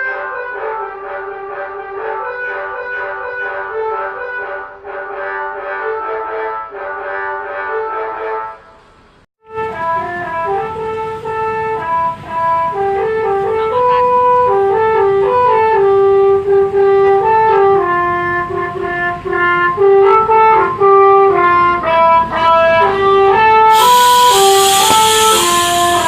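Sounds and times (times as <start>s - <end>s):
multi-tone bus horn tune: 0.0s - 26.0s.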